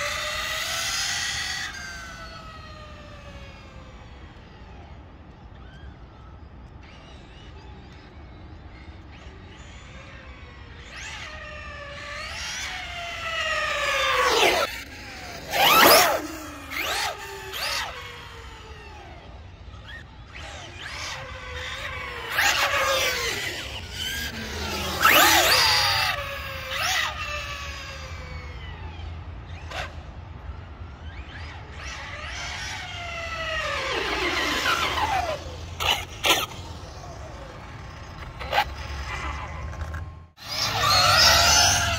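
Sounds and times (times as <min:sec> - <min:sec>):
rc car motor whining past: 0:00.0 - 0:41.9.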